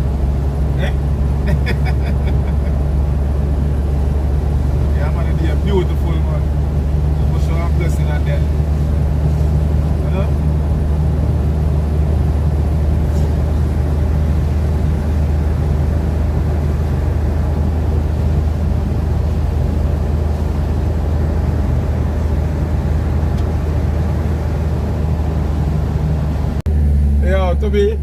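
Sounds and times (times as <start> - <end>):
engine and road noise in cabin: 0.0 - 28.0.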